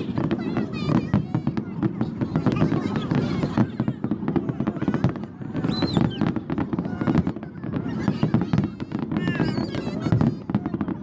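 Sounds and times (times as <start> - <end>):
crowd calling out: 0.0 - 11.0
fireworks booming: 0.0 - 11.0
fireworks crackling: 0.0 - 11.0.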